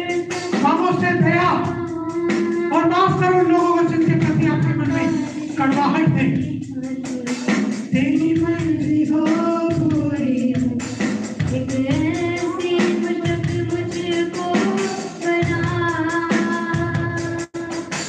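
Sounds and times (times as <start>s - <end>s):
steady drum beat: 0.0s - 18.0s
worship song over loudspeakers: 0.0s - 18.0s.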